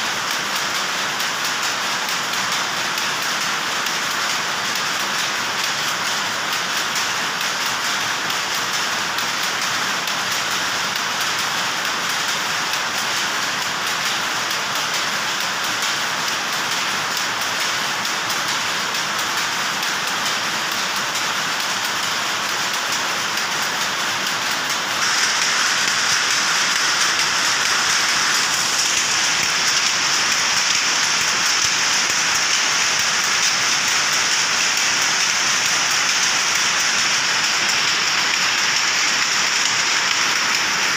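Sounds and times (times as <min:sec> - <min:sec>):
power loom clattering: 0:00.0 - 0:40.9.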